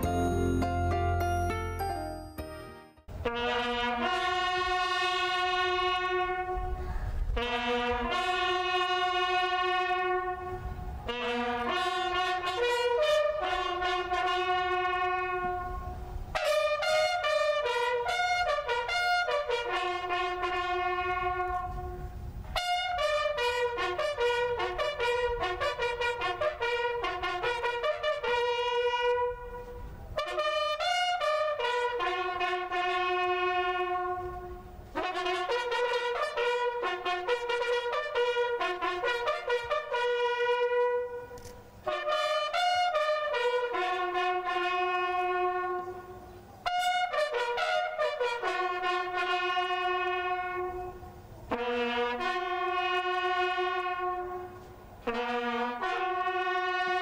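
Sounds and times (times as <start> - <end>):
solo brass instrument playing: 0.0 - 57.0.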